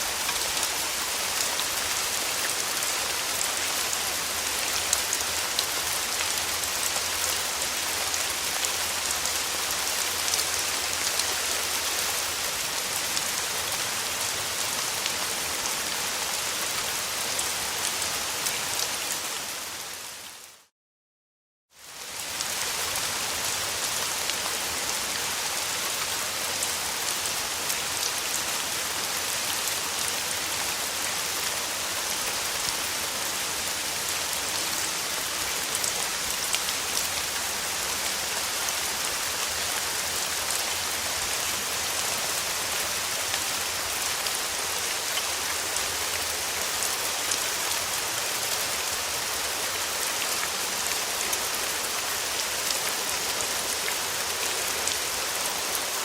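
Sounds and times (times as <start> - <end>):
steady rain falling: 0.0 - 20.7, 21.7 - 56.0.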